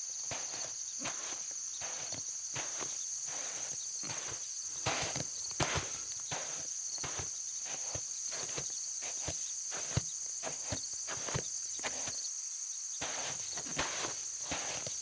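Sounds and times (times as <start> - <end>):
insect chirring: 0.0 - 15.0
footsteps on dry leaves: 0.3 - 12.1, 13.0 - 15.0.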